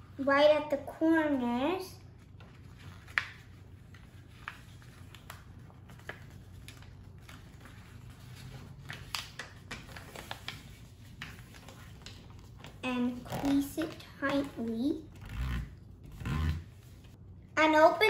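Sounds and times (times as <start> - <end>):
low steady hum: 0.0 - 18.0
paper rustling: 2.1 - 17.2.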